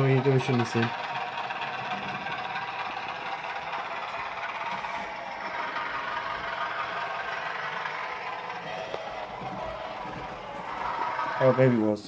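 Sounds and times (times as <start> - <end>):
model train motors whirring: 0.0 - 12.0
wheels rattling on track: 0.0 - 12.0.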